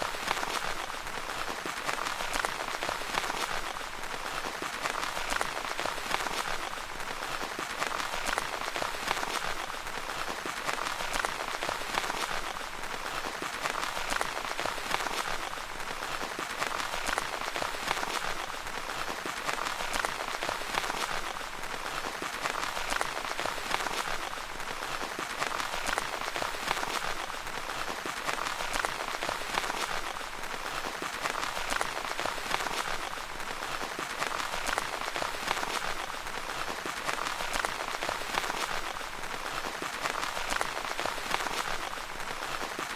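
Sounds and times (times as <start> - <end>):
rain pattering on tent fabric: 0.0 - 42.9.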